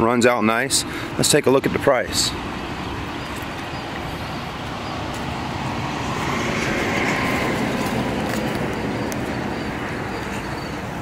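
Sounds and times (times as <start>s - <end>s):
motor vehicle noise: 0.0s - 11.0s.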